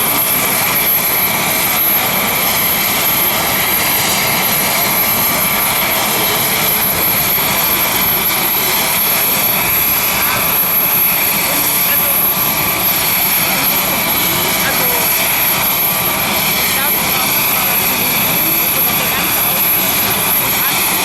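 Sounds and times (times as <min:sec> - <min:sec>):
helicopter turbine and rotor noise: 0:00.0 - 0:21.0.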